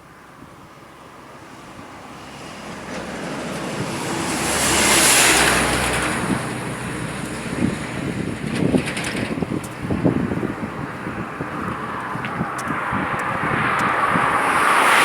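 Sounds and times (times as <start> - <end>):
road vehicle driving past: 0.9 - 15.0.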